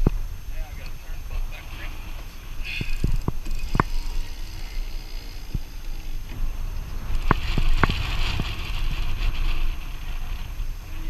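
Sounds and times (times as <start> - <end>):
boat motor rumble: 0.0 - 11.0
hiss: 0.0 - 11.0
wind noise: 0.0 - 11.0.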